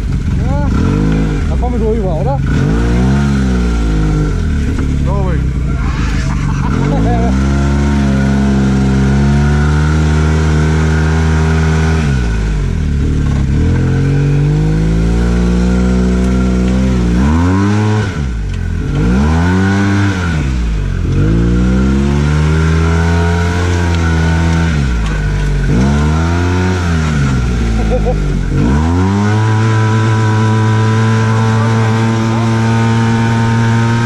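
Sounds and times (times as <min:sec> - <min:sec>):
vehicle engine revving: 0:00.0 - 0:34.0.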